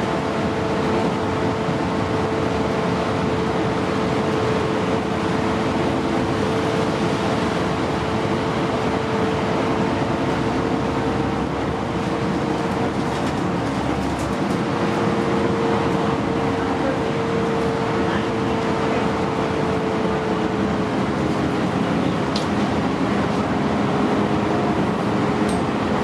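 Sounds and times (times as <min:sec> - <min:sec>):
bus engine and road noise: 0:00.0 - 0:26.0.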